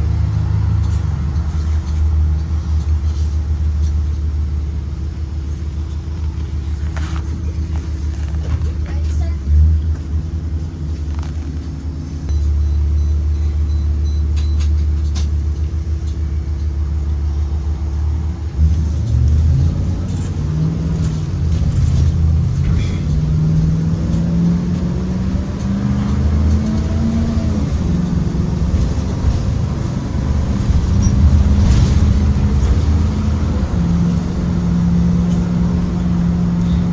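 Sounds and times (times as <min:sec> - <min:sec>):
bus engine rumbling: 0:00.0 - 0:36.9.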